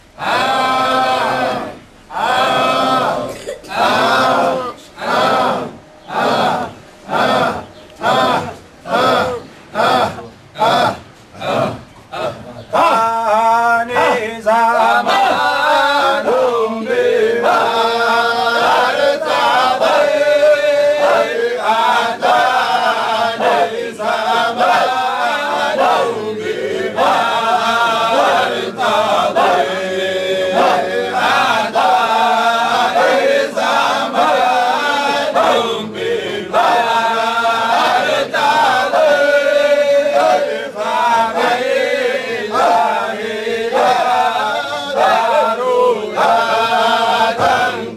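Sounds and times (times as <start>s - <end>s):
men chanting in unison: 0.2s - 47.9s.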